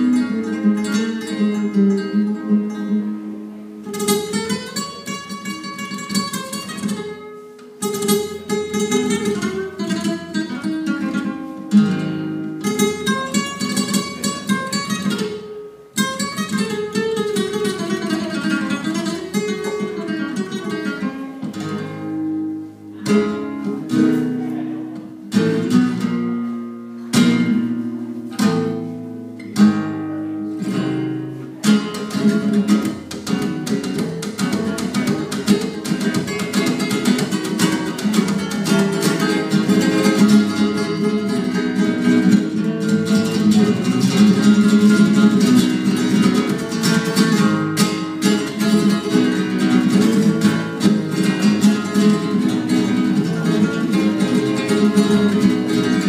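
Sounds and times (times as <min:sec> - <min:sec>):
flamenco guitar: 0:00.0 - 0:56.0.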